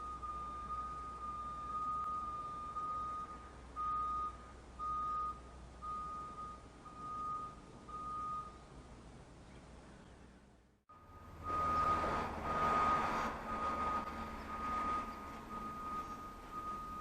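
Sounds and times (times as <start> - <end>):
reversing alarm beeping: 0.0 - 8.6, 10.9 - 17.0.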